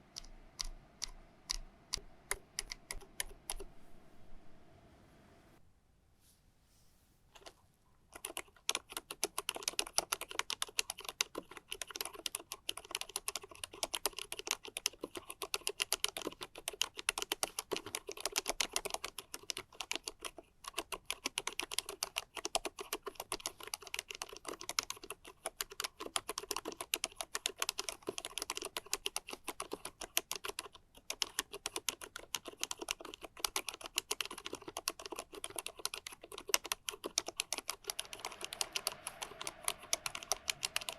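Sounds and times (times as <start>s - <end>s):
fast typing on mechanical keyboard: 2.3s - 3.7s, 8.1s - 40.9s.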